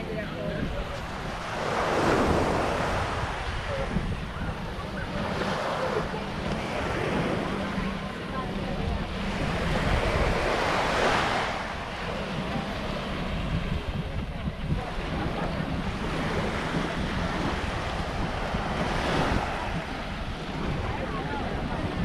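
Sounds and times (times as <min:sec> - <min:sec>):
surf washing on sandy beach: 0:00.0 - 0:22.0
wind buffeting microphone: 0:00.0 - 0:22.0.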